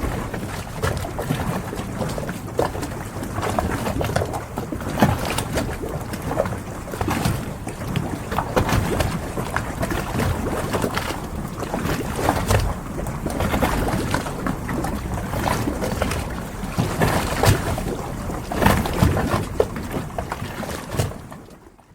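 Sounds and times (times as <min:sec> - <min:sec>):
low rumble of wind: 0:00.0 - 0:21.9
water lapping against boats: 0:00.0 - 0:21.9.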